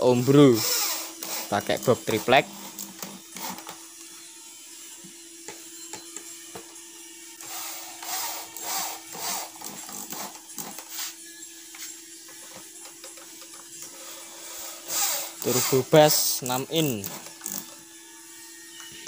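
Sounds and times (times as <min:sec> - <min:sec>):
electric drill driving screws: 0:00.0 - 0:19.0.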